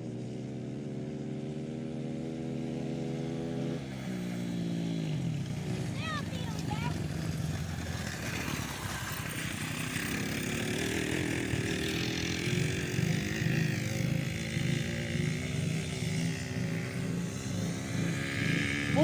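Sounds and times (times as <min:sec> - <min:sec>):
small petrol engines revving: 0:00.0 - 0:19.0.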